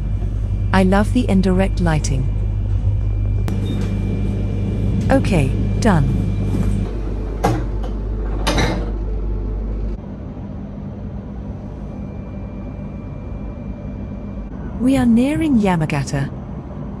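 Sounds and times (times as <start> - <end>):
station platform ambience: 0.0 - 17.0
train car interior hum: 0.0 - 17.0.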